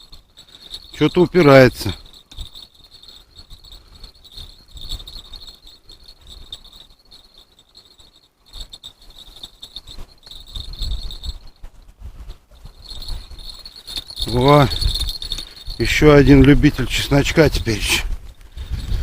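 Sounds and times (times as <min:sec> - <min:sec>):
wind rumbling on microphone: 0:00.0 - 0:07.4, 0:09.4 - 0:19.0
crickets chirping: 0:00.0 - 0:19.0.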